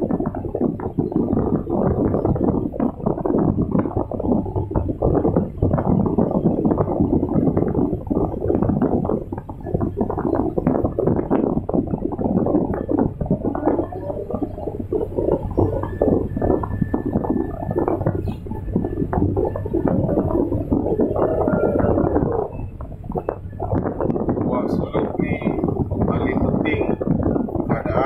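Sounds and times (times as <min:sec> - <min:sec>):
thin steady whine: 0:00.0 - 0:28.0.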